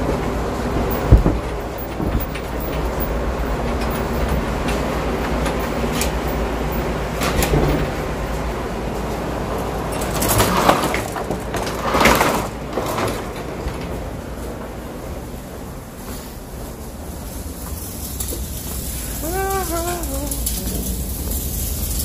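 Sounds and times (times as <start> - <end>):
corn-cracking machine rumbling: 0.0 - 22.0.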